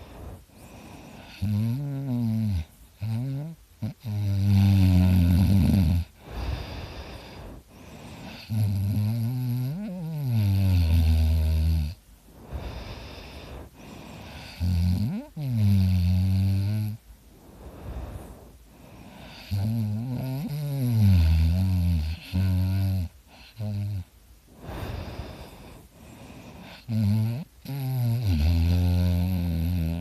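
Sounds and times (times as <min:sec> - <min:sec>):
soft breathing: 0:00.0 - 0:03.8, 0:05.9 - 0:09.1, 0:09.7 - 0:29.2
person snoring: 0:00.0 - 0:17.0, 0:17.6 - 0:30.0.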